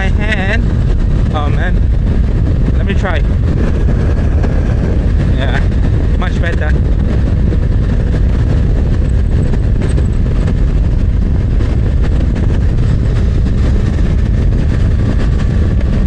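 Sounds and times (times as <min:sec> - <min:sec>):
motorcycle engine running: 0:00.0 - 0:16.0
road noise: 0:00.0 - 0:16.0
wind rush on microphone: 0:00.0 - 0:16.0.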